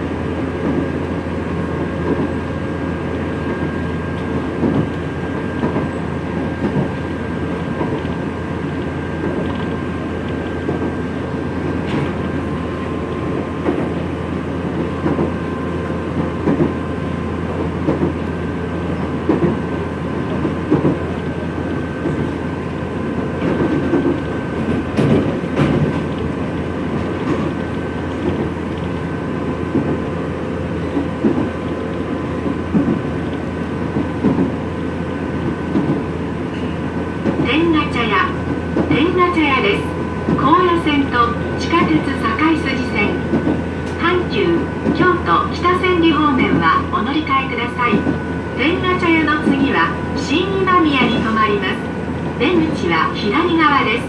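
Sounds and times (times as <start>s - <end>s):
train wheels rumbling on rail: 0.0s - 54.0s
rail-joint clacks: 0.6s - 2.4s, 3.4s - 16.8s, 17.5s - 34.7s, 35.3s - 53.9s.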